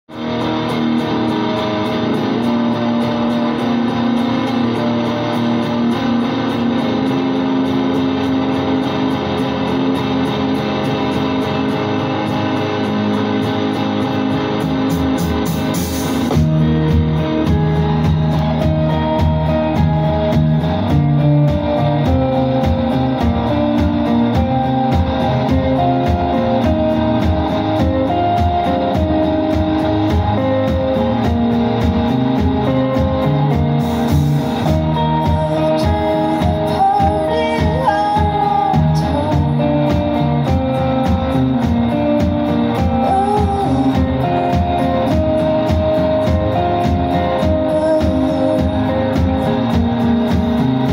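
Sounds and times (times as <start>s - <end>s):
bass guitar: 0.0s - 50.9s
electric guitars: 0.0s - 50.9s
drums: 0.1s - 50.9s.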